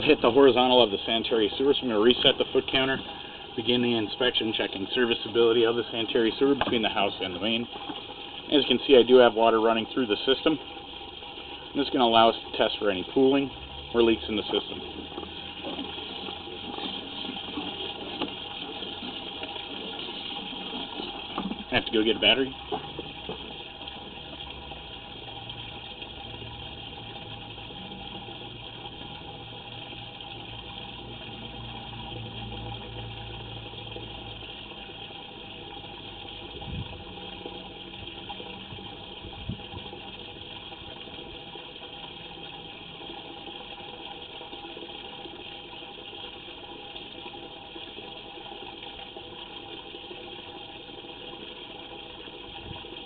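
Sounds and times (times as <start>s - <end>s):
water rushing through sewer: 0.0s - 53.0s.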